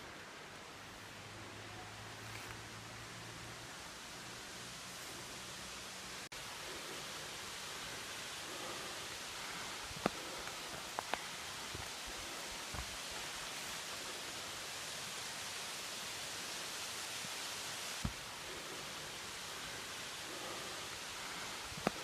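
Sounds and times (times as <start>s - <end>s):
waterfall roaring: 3.0s - 22.0s.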